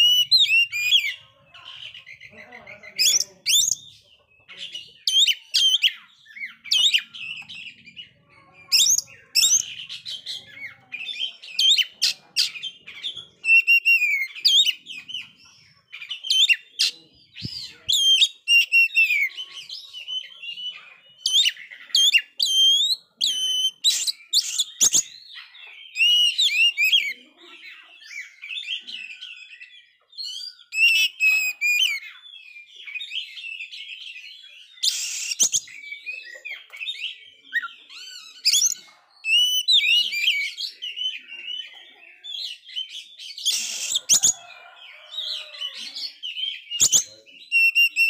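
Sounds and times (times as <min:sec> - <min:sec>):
songbird whistling song: 0:00.0 - 0:01.2, 0:03.0 - 0:27.2, 0:28.0 - 0:48.0.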